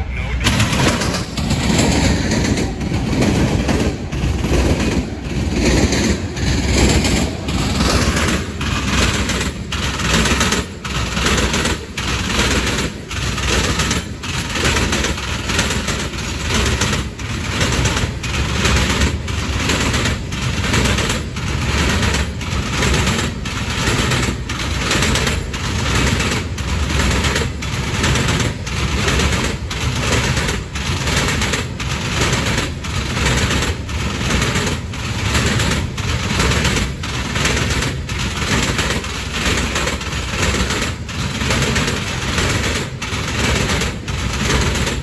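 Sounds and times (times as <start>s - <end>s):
train wheels clacking on track: 0.0s - 45.0s.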